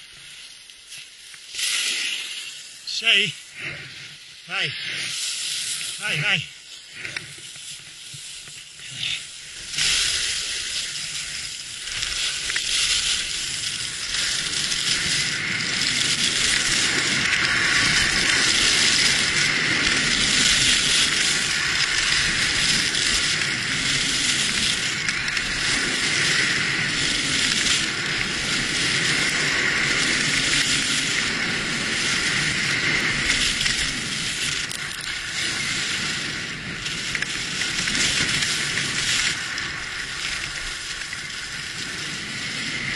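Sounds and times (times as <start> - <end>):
skis scraping over snow: 0.0 - 42.9.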